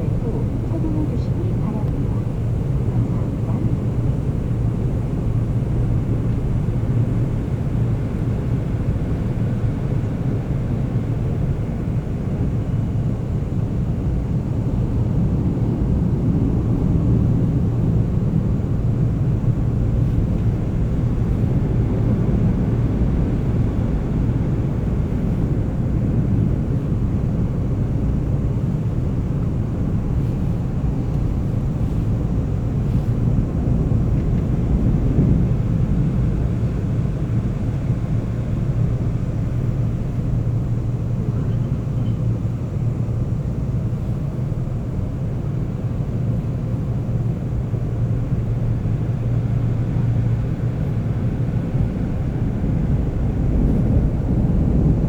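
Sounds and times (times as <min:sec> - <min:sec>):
subway train rumbling: 0:00.0 - 0:55.0.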